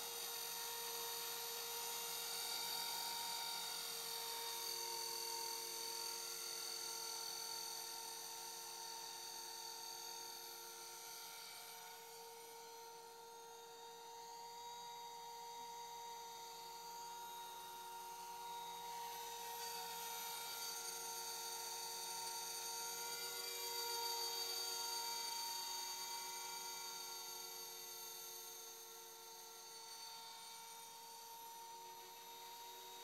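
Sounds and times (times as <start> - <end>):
model helicopter whine: 0.0 - 33.0.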